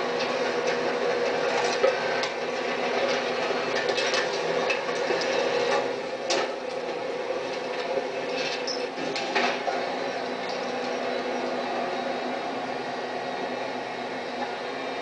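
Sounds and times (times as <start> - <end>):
hydraulic packer droning: 0.0 - 15.0.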